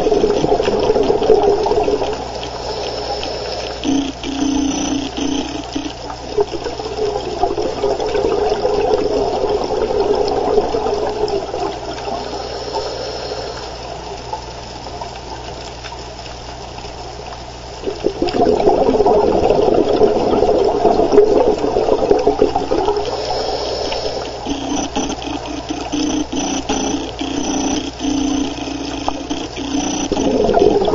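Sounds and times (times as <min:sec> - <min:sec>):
underwater air bubbling: 0:00.0 - 0:30.9.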